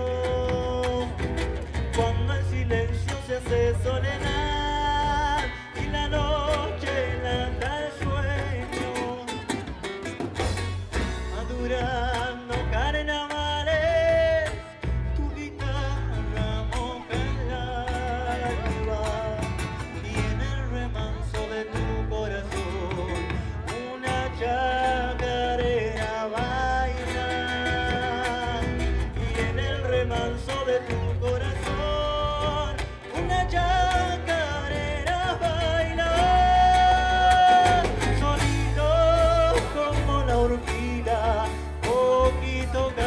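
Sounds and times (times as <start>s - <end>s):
live band music: 0.0s - 43.0s.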